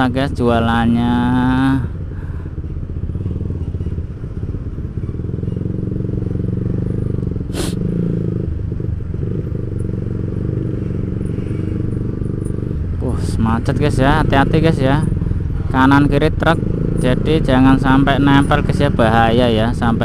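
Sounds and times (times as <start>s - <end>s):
motorcycle engine humming: 0.0s - 20.0s.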